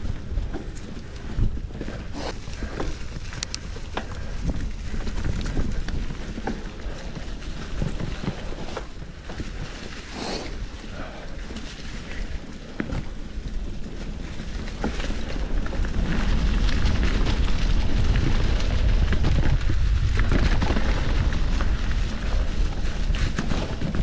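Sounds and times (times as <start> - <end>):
bike clicks and rattles: 0.0 - 24.0
tyres rolling over rough trail: 0.0 - 24.0
wind rumbling on microphone: 0.0 - 24.0.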